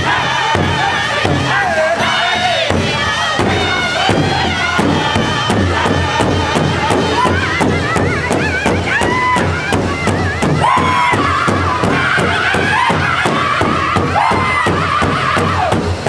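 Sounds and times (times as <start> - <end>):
large drum beating: 0.0 - 16.0
men singing in unison: 0.0 - 16.0.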